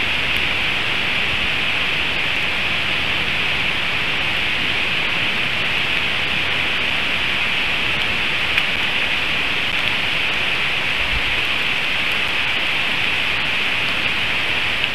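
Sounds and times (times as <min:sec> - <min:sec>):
heavy rain on forest: 0:00.0 - 0:14.9.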